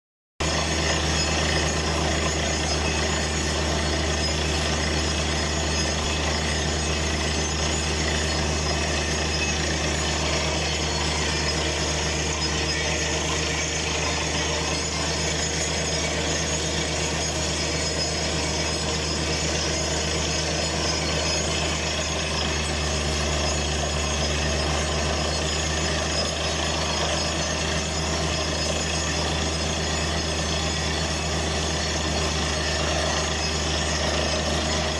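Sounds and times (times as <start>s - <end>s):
drilling rig engine droning: 0.4s - 34.9s.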